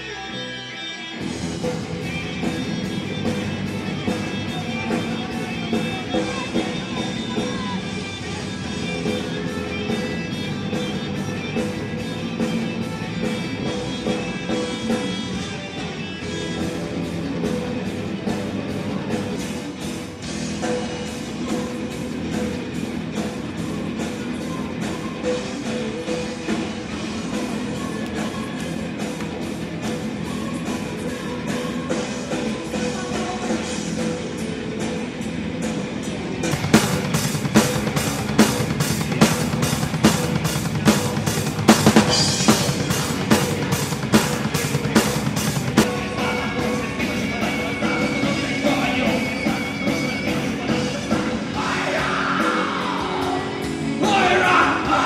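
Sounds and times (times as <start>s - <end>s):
electric guitars: 0.0s - 55.0s
heavy metal music: 0.0s - 55.0s.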